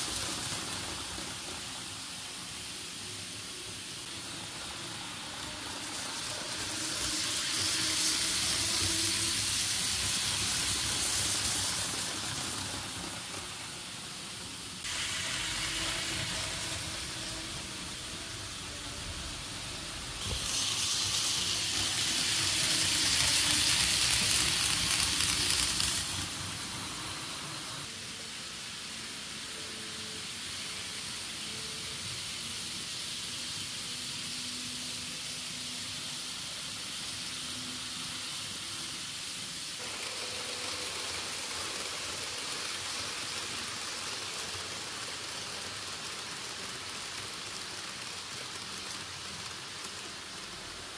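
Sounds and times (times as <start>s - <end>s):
model train wheels on rails: 0.0s - 50.9s.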